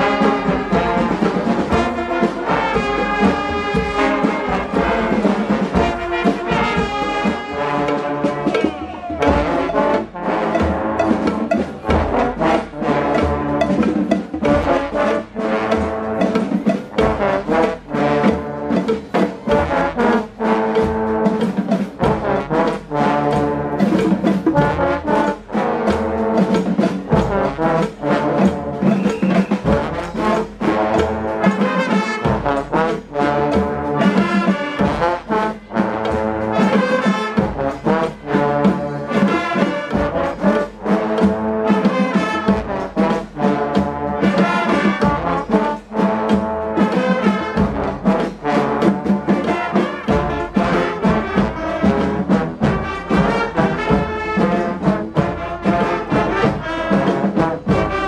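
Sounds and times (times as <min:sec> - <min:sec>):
brass band playing: 0:00.0 - 0:58.0
percussive beat: 0:00.0 - 0:58.0
trombones: 0:00.0 - 0:58.0.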